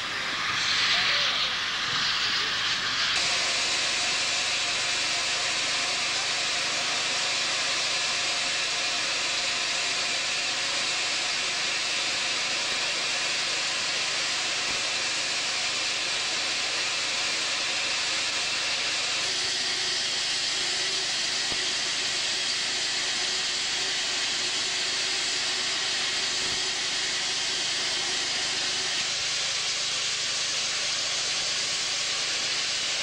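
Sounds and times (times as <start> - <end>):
steam hissing: 0.0 - 33.0.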